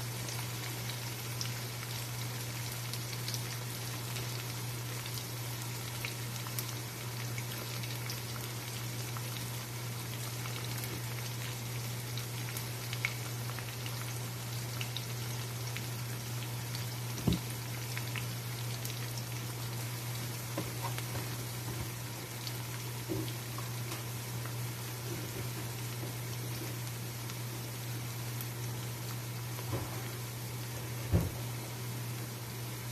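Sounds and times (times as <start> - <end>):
onions sizzling in hot oil: 0.0 - 30.8.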